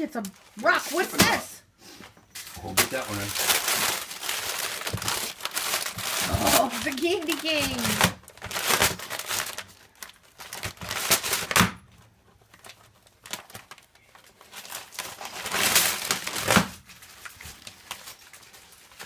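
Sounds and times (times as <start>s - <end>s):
wrapping paper crinkling and tearing: 2.4s - 11.6s, 12.2s - 19.0s.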